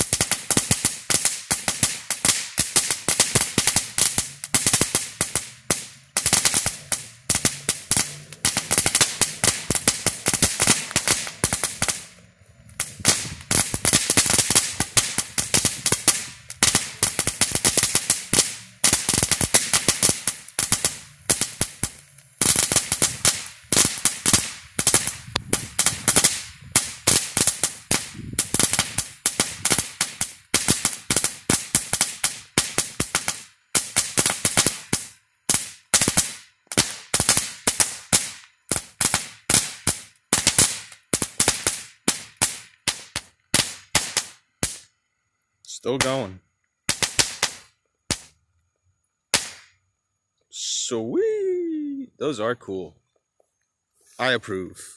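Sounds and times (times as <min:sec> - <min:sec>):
fireworks crackling: 0:00.0 - 0:45.0, 0:45.7 - 0:48.5, 0:49.1 - 0:49.8, 0:50.5 - 0:52.9, 0:54.0 - 0:54.9.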